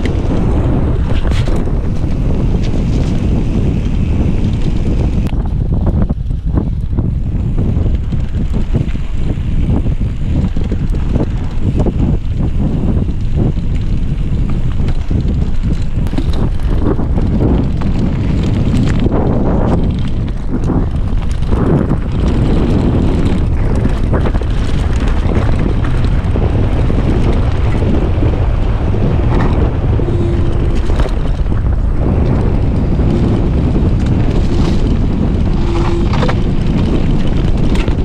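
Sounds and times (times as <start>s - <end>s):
bike rattling and knocking: 0.0s - 38.0s
bike tyre rumble: 0.0s - 38.0s
wind buffeting microphone: 0.0s - 38.0s.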